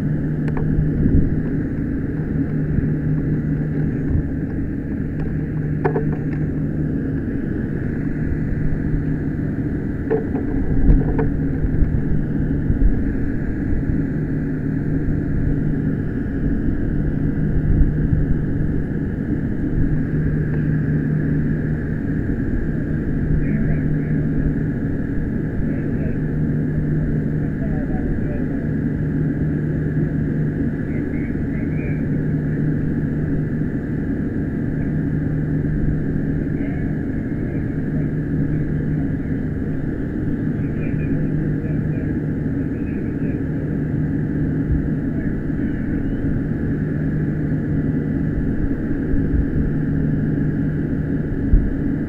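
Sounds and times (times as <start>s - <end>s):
mechanical drone with low hum: 0.0s - 52.0s.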